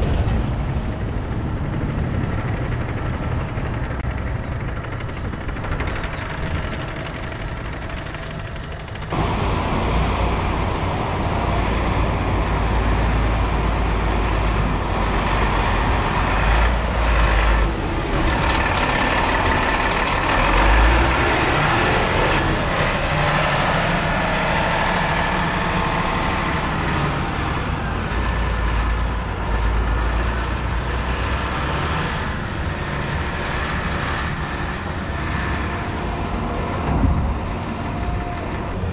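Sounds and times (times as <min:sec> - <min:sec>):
diesel truck engine rumbling: 0:00.0 - 0:38.9.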